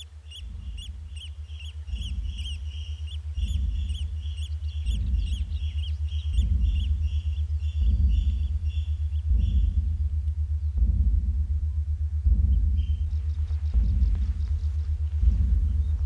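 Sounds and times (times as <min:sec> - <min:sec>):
low pulsed animal calls: 0:00.0 - 0:11.6, 0:12.2 - 0:16.0.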